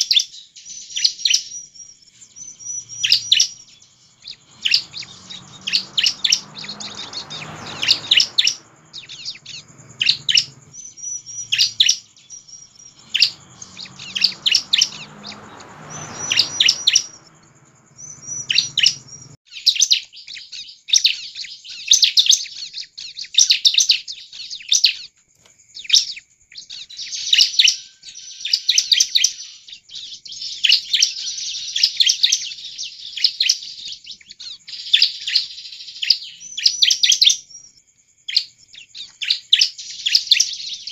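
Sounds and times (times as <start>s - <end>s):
bird singing high chirps and trills: 0.0s - 40.9s.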